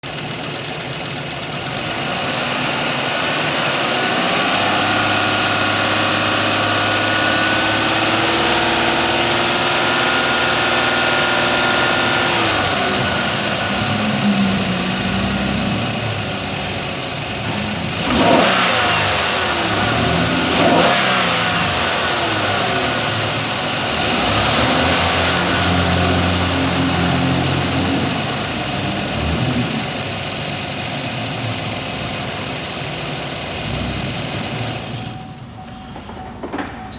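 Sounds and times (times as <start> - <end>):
truck engine revving: 0.0 - 36.9.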